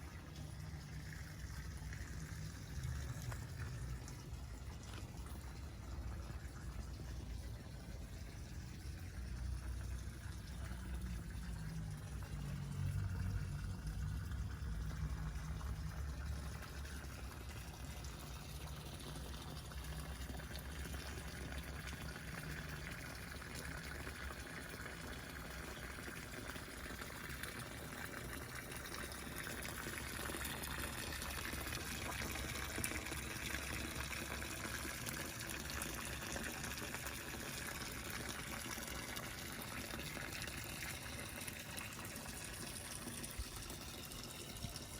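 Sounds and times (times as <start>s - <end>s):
water running and pouring: 0.0s - 44.9s.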